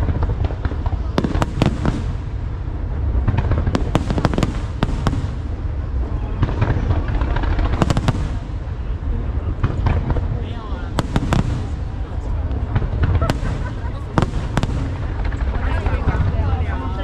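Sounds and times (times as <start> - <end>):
continuous low rumble: 0.0 - 17.0
firework bangs and crackles: 0.0 - 17.0.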